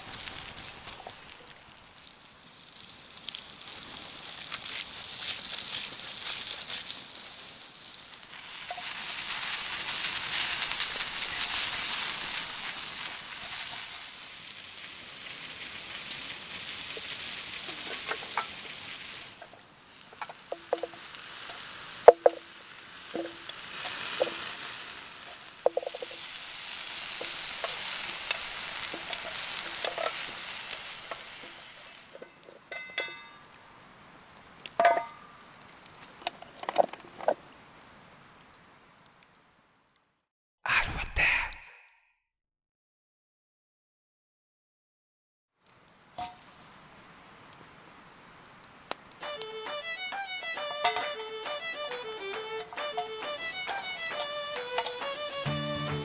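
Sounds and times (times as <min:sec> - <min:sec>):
food sizzling in a pan: 0:00.0 - 0:39.4, 0:45.6 - 0:56.0.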